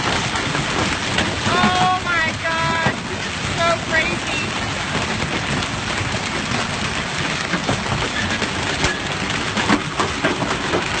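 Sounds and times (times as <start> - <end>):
hailstones striking hard surfaces: 0.0 - 11.0
hiss of falling rain and ice: 0.0 - 11.0.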